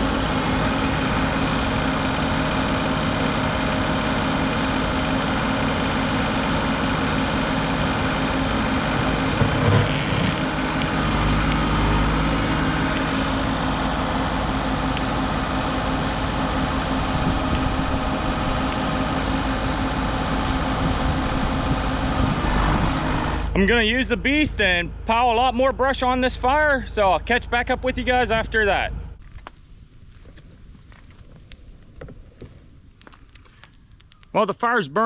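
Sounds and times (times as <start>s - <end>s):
heavy machine engine running: 0.0s - 29.2s.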